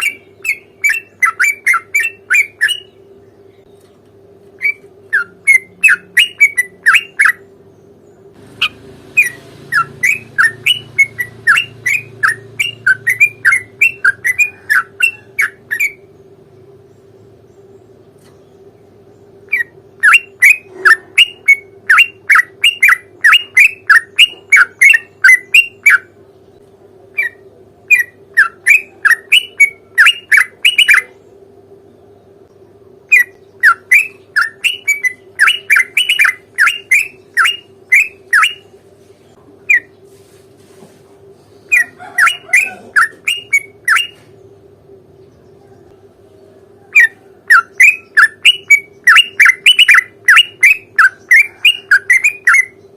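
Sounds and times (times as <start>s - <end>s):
bird singing rapid notes: 0.0s - 4.0s, 4.6s - 40.1s, 41.5s - 52.9s
faint hum: 0.0s - 52.9s.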